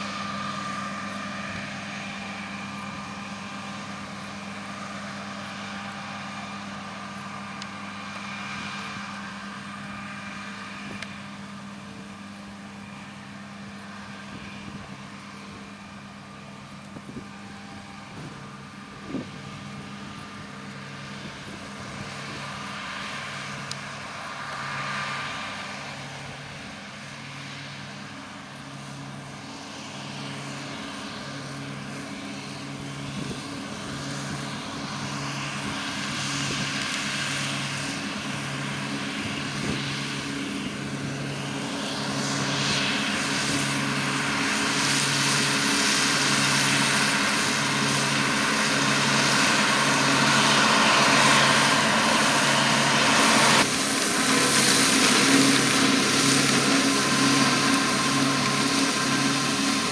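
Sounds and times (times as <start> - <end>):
tractor and mower drone: 0.0 - 59.9.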